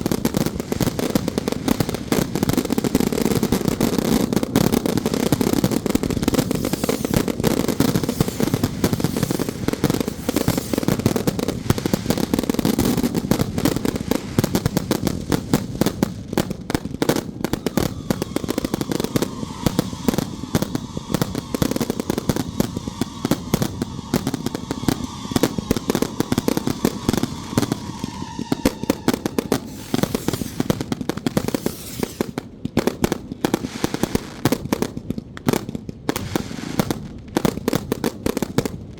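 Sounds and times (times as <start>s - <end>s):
firecrackers popping: 0.0s - 38.9s.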